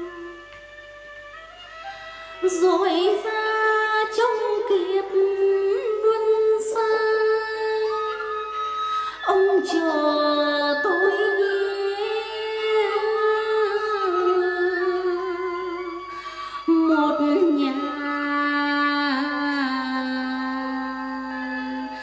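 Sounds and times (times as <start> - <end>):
instrumental accompaniment: 0.0 - 22.0.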